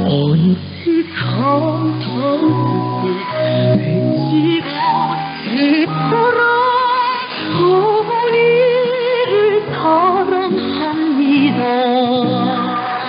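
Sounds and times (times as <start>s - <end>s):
woman singing over radio: 0.9s - 13.0s
instrumental accompaniment: 1.6s - 13.0s.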